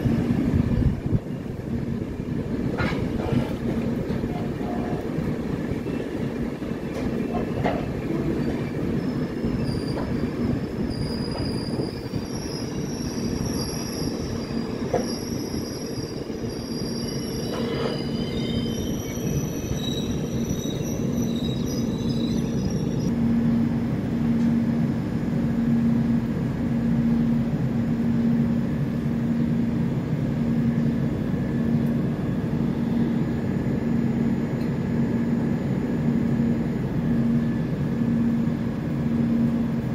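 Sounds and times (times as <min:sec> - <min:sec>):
train rumbling over rails: 0:00.0 - 0:39.9.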